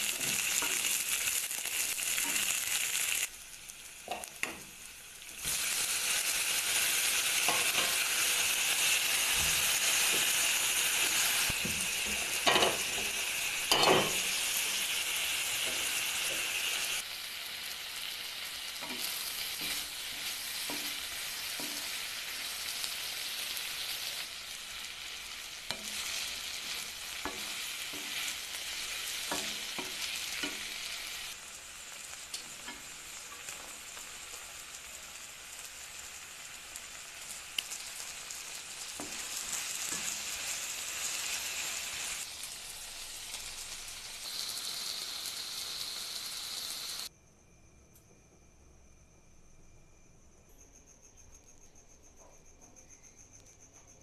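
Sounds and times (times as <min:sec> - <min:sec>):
vegetables sizzling in oil: 0:00.0 - 0:47.1.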